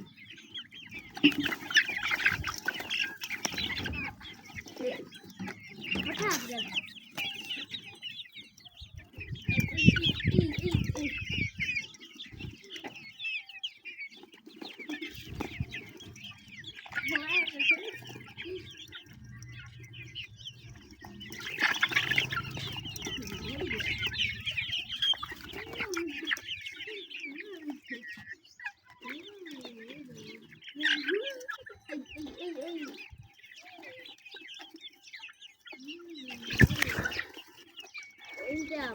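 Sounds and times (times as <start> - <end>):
chickens clucking and chirping: 0.0 - 38.9.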